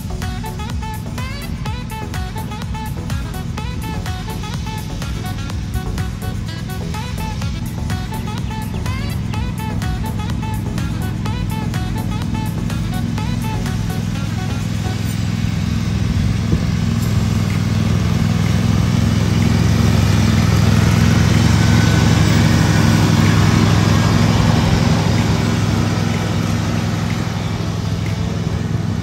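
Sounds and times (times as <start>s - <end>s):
riding lawn mower engine: 0.0s - 29.0s
mower blades whirring through grass: 3.2s - 29.0s.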